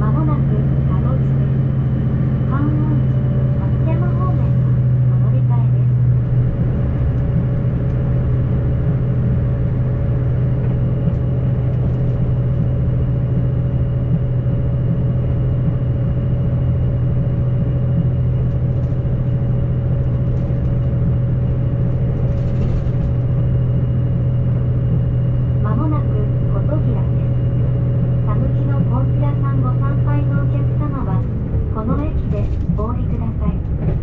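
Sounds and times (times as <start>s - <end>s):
diesel railcar engine droning: 0.0s - 34.0s
steady high hum: 0.0s - 34.0s.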